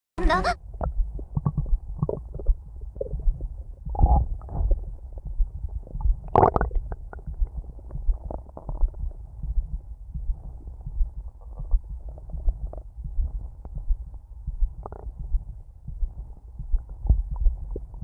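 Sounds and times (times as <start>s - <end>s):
stomach growling: 0.3s - 13.8s, 14.6s - 18.0s.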